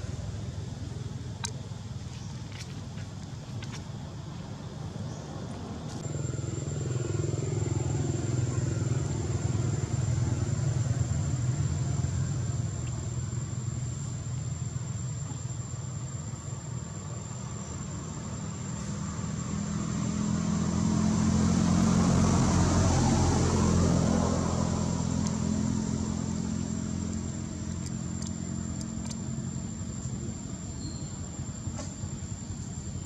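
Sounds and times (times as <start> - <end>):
vehicle engine hum passing: 0.0 - 33.0.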